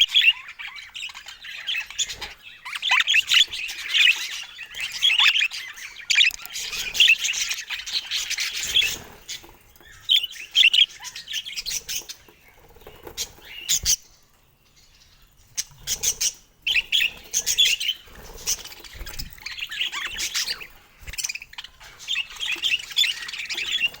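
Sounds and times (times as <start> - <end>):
budgerigars chirping: 0.0 - 14.2, 14.8 - 24.0.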